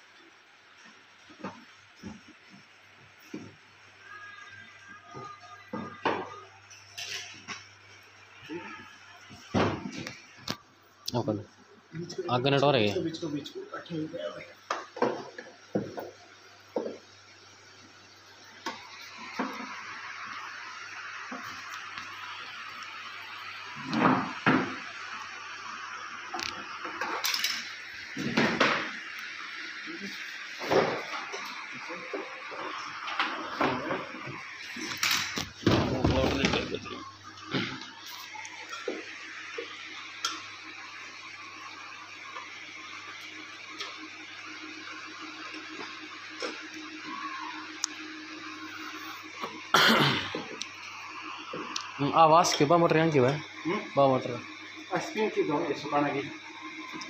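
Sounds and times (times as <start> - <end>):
steady hiss: 7.0 - 57.0.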